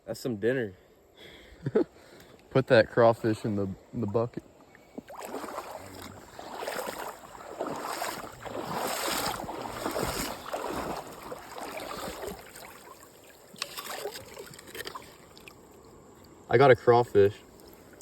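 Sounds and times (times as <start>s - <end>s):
creek water splashing: 2.0s - 18.0s.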